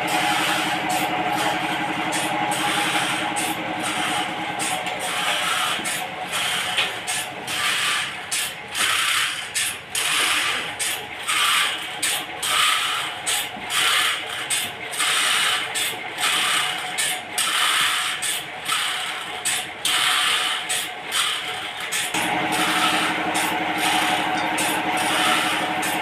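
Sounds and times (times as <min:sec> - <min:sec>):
rhythmic rasping scrape: 0:00.0 - 0:26.0
sawmill machinery humming: 0:00.0 - 0:26.0.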